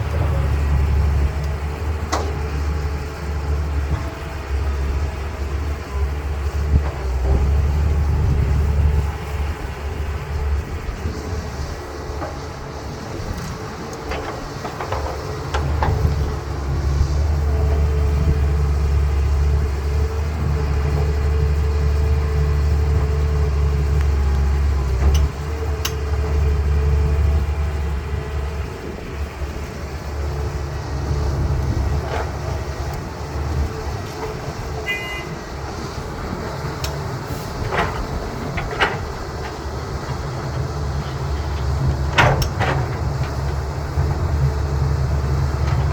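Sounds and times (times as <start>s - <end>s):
excavator diesel engine drone: 0.0s - 45.9s.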